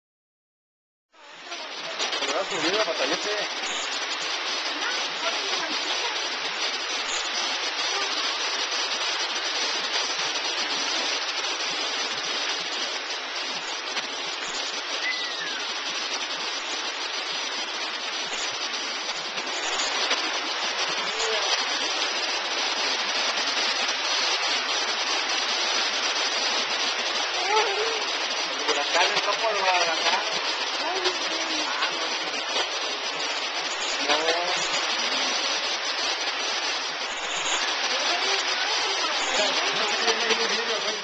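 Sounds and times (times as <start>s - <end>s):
heavy rain and hail falling: 1.2s - 41.0s.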